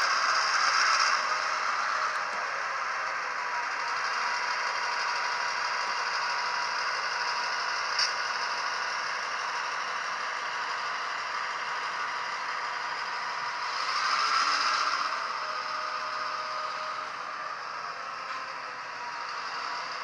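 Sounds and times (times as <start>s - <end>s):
model train wheels rattling on track: 0.0s - 20.0s
simulated diesel engine from speaker: 0.0s - 20.0s.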